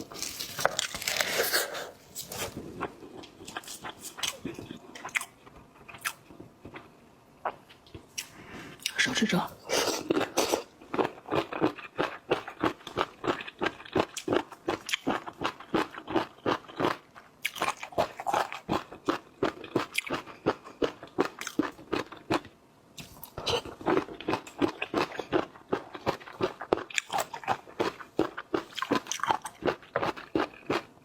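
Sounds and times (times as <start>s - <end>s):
person chewing and crunching: 0.0s - 6.9s, 9.7s - 30.9s.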